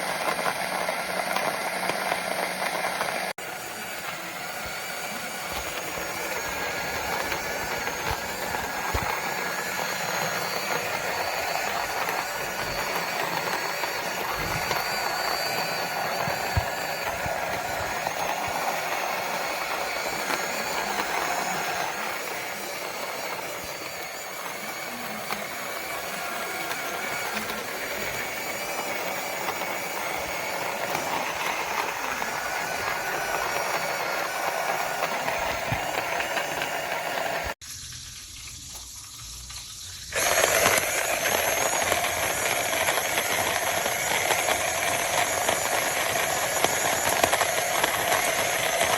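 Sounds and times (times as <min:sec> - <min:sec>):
coffee grinder motor whining: 0:00.0 - 0:37.7, 0:38.8 - 0:48.9
beans crackling as ground: 0:03.2 - 0:48.9.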